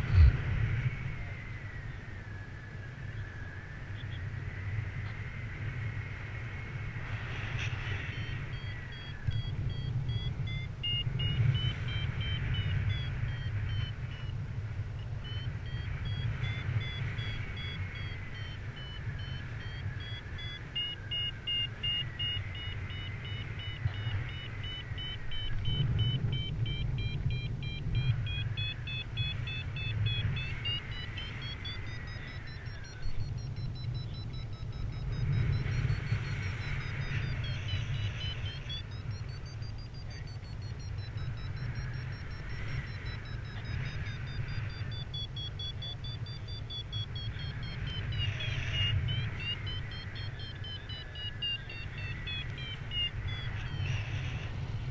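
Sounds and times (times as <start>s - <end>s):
wind rushing over microphone: 0.0s - 54.9s
variometer beeping: 7.5s - 54.9s.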